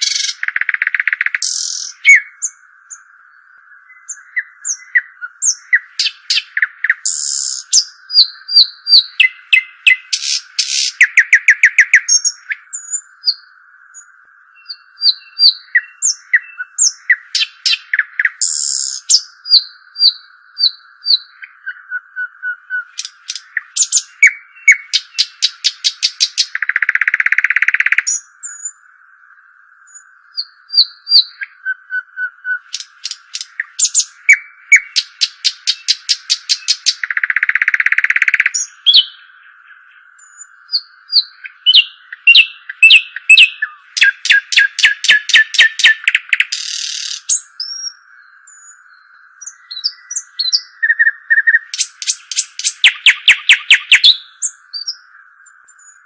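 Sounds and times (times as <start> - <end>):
songbird chirping and trilling: 0.0 - 56.0.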